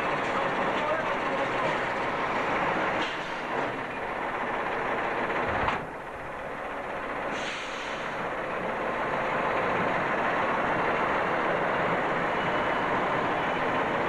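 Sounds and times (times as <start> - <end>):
truck diesel rumble: 0.0 - 14.0.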